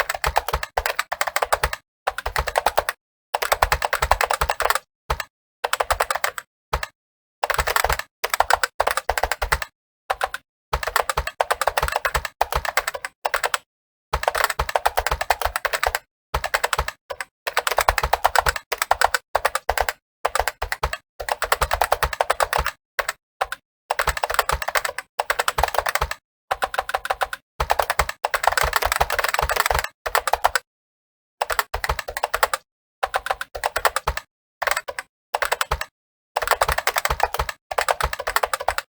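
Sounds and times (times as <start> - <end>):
fast keyboard typing: 0.0 - 30.7, 31.4 - 38.9.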